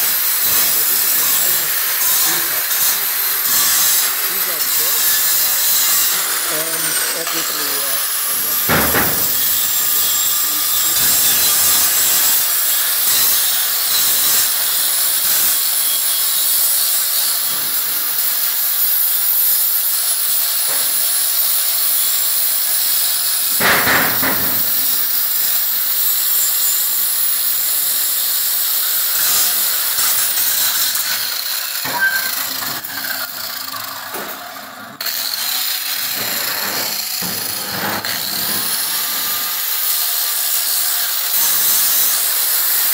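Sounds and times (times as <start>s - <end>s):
angle grinder grinding steel: 0.0s - 42.9s.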